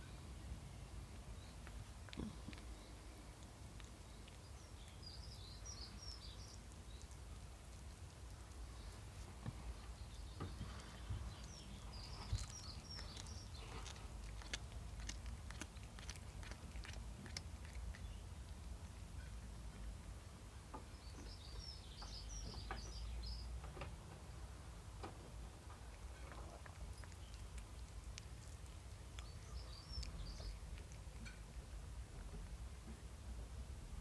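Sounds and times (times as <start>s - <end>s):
low background rumble: 0.0s - 34.0s.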